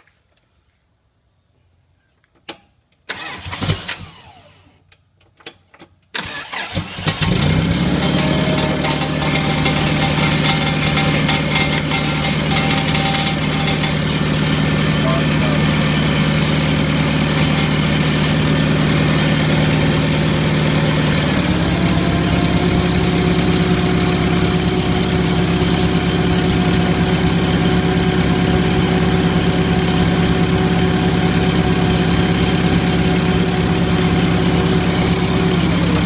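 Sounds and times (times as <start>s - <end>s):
forklift engine revving: 3.1s - 4.7s, 6.2s - 36.0s.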